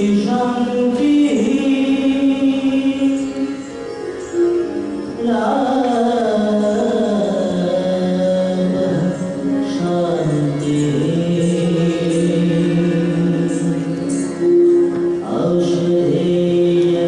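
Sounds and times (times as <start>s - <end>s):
person singing devotional melody: 0.0s - 17.0s
steady drone: 0.0s - 17.0s.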